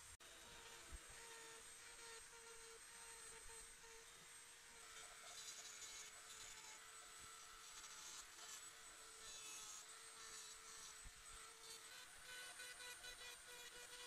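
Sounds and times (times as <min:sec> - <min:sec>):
rotary tool whine: 0:00.0 - 0:14.0.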